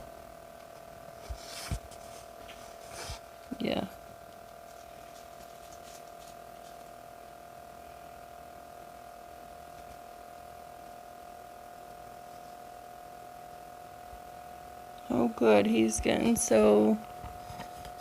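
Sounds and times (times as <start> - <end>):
faint high-pitched electrical whine: 0.0 - 18.0.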